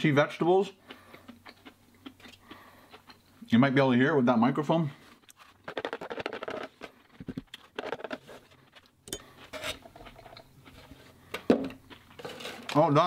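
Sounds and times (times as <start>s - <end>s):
crunchy chewing of noodles: 0.6s - 3.5s, 5.0s - 12.8s.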